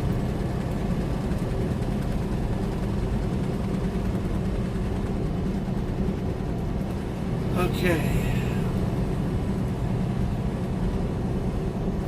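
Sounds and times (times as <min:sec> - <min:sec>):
truck engine and tires droning: 0:00.0 - 0:12.0.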